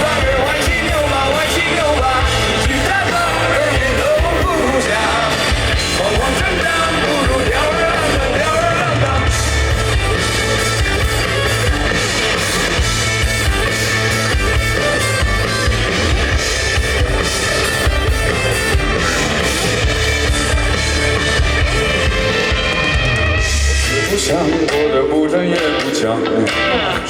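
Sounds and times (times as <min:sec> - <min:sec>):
drum kit: 0:00.0 - 0:27.0
electric guitar: 0:00.0 - 0:27.0.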